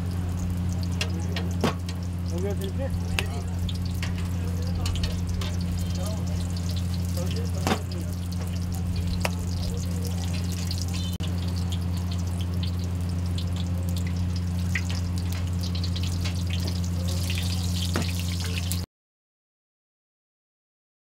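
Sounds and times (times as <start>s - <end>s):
low hum: 0.0s - 18.8s
dough deep-frying in hot oil: 0.0s - 18.9s.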